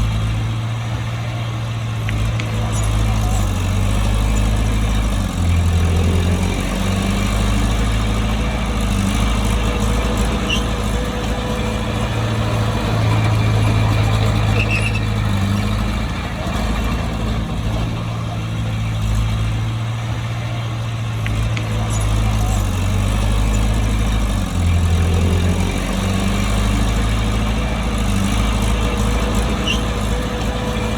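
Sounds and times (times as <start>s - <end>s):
bulldozer diesel engine running: 0.0s - 30.9s.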